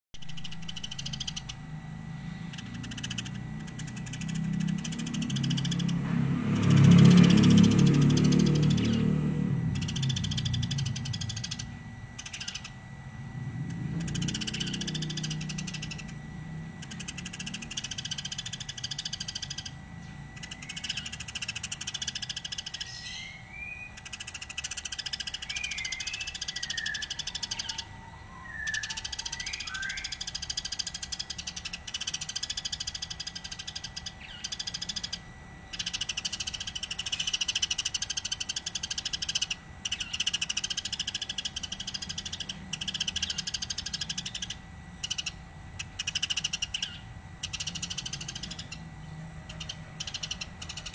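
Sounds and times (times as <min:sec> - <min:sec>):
sparrow chirping: 0:00.2 - 0:50.9.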